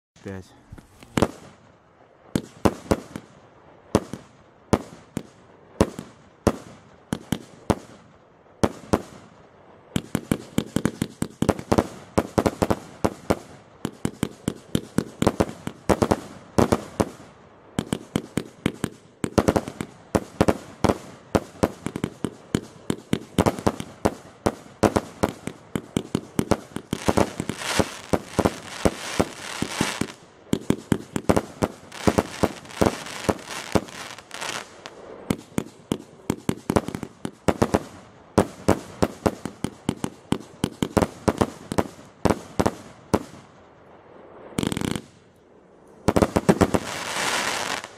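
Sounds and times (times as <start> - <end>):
firework crackling: 0.2 - 45.3, 46.0 - 47.9
firework shots firing: 0.7 - 1.7, 2.3 - 43.5, 44.5 - 45.2, 46.0 - 47.9.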